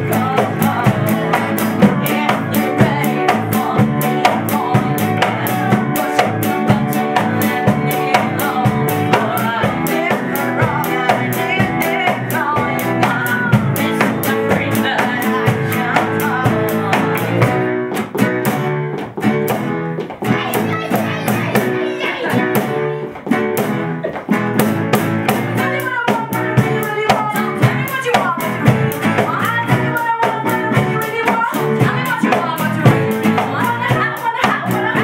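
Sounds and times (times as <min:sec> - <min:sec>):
drum kit beat: 0:00.0 - 0:35.0
guitar: 0:00.0 - 0:35.0.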